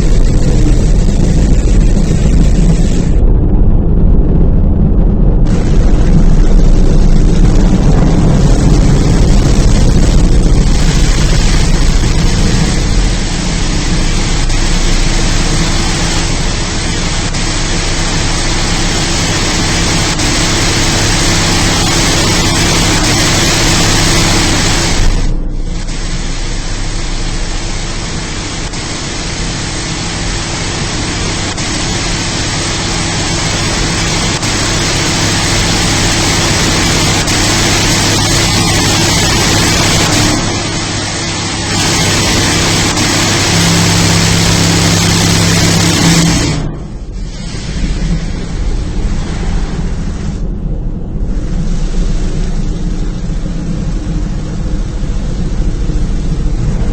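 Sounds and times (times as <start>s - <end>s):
car wash rushing noise: 0.0s - 56.9s
motor hum: 0.0s - 56.9s.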